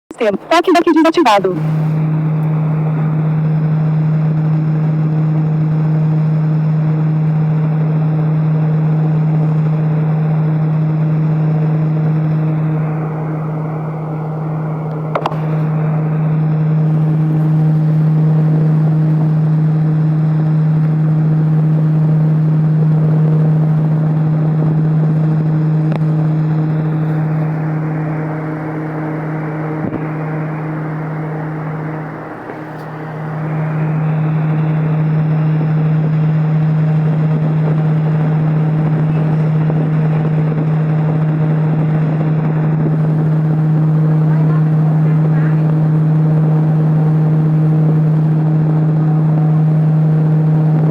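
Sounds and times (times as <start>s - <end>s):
electric fan running: 0.1s - 50.9s.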